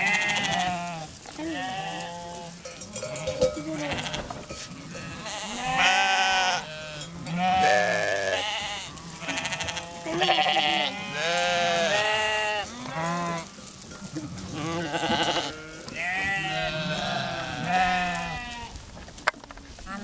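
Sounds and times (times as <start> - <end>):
sheep and goats bleating: 0.0 - 18.8.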